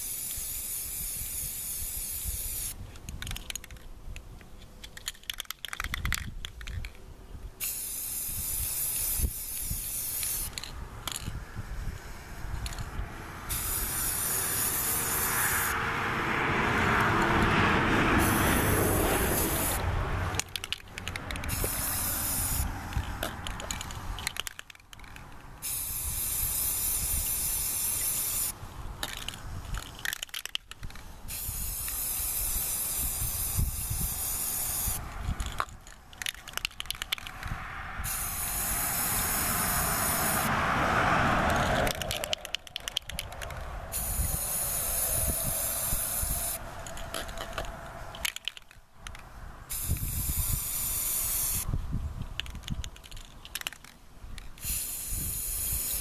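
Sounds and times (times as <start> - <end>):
spray paint can hissing: 0.0 - 3.9, 4.8 - 7.0, 7.6 - 15.8, 16.9 - 40.5, 41.4 - 48.8, 49.7 - 56.0.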